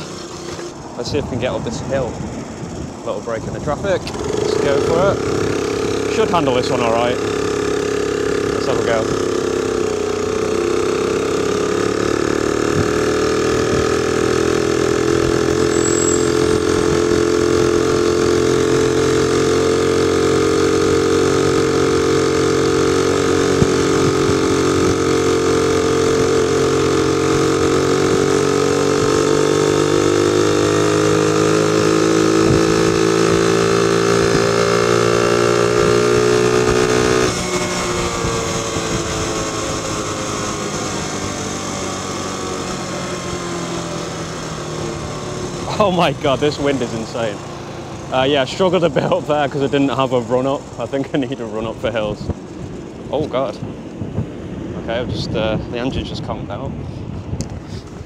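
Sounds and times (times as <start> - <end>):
moped engine labouring uphill: 0.0 - 58.0.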